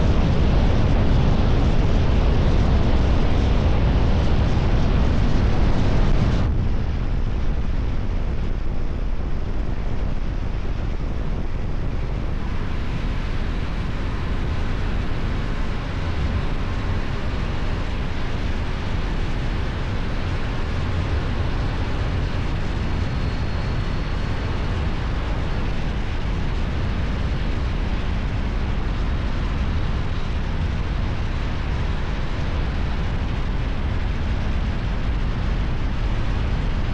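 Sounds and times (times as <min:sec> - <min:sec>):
wind rush on microphone: 0:00.0 - 0:36.9.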